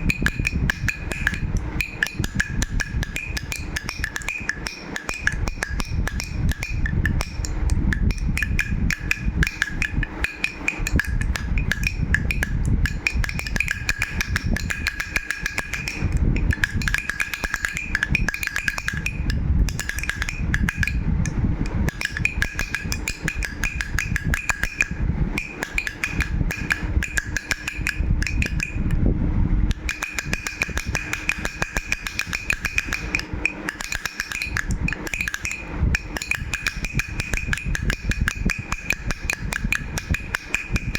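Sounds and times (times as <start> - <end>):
baby rattle shaking: 0.0 - 28.9, 29.7 - 40.9.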